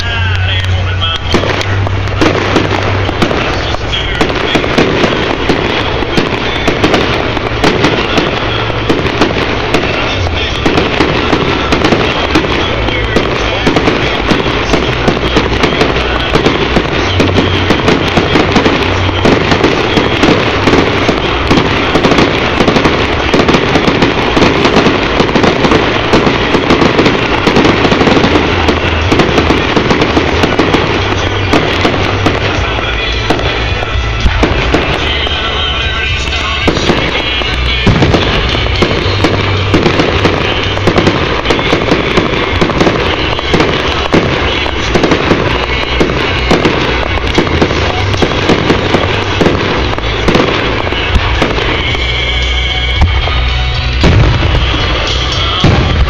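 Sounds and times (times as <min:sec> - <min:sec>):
fireworks barrage: 0:00.0 - 0:56.0.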